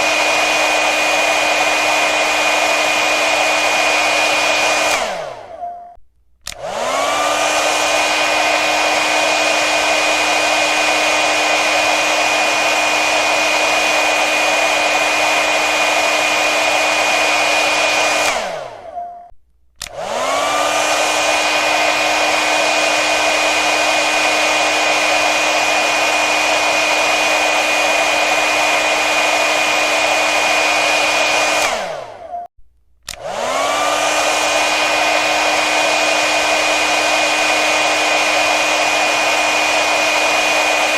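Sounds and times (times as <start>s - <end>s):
hair dryer blowing: 0.0s - 5.7s, 6.4s - 19.0s, 19.8s - 32.4s, 33.0s - 40.9s.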